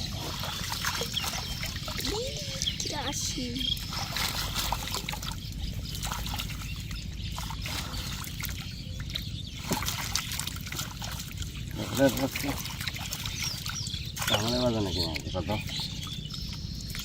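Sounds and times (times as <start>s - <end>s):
steady low rumble: 0.0s - 17.0s
water trickling and splashing: 0.0s - 17.0s.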